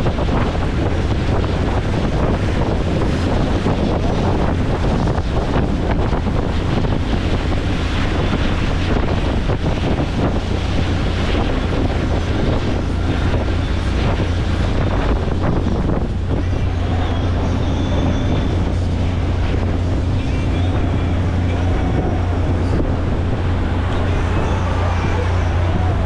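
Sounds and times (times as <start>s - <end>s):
motorboat engine drone: 0.0s - 26.0s
water noise: 0.0s - 26.0s
wind buffeting microphone: 0.0s - 26.0s.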